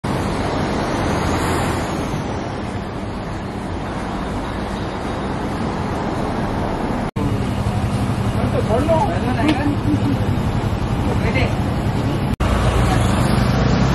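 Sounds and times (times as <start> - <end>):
street traffic: 0.0 - 13.9.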